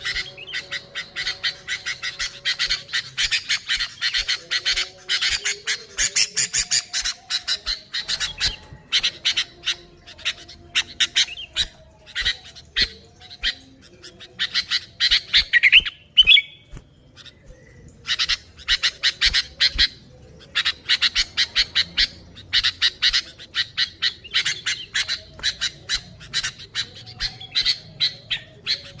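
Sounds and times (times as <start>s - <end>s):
birds chattering harshly: 0.0s - 29.0s.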